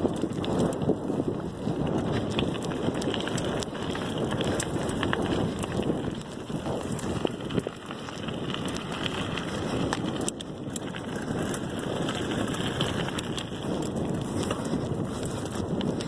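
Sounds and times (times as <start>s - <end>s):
bike clicks and rattles: 0.0s - 16.0s
bike tyres on dirt trail: 0.0s - 16.0s
wind buffeting microphone: 0.0s - 16.0s.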